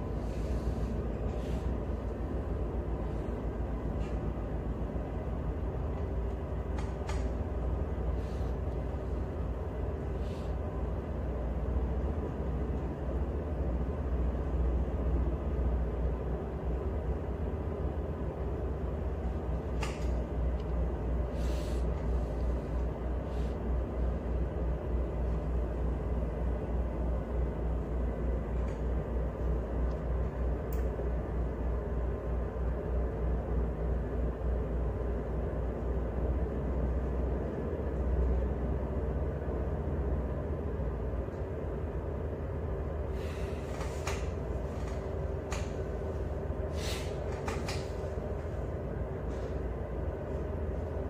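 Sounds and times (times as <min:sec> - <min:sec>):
boat engine drone: 0:00.0 - 0:51.0.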